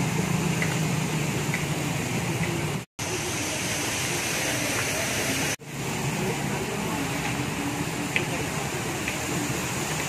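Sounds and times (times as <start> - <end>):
motorbike engines humming: 0.0 - 10.0
water hissing: 0.0 - 10.0.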